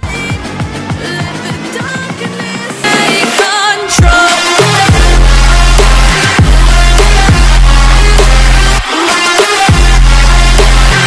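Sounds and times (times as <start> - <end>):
music with falling bass beat: 0.0 - 11.0.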